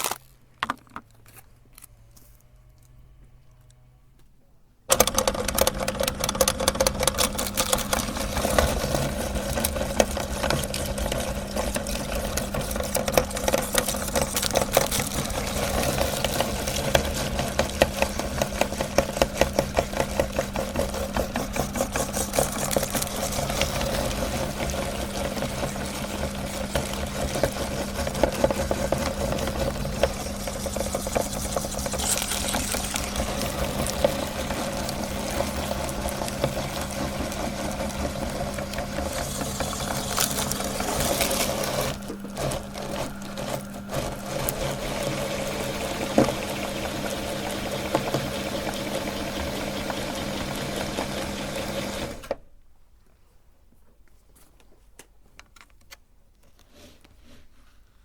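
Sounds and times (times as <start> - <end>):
grinding crackling and squishing: 0.0 - 4.3, 4.9 - 52.3
meat grinder motor hum: 4.9 - 52.4.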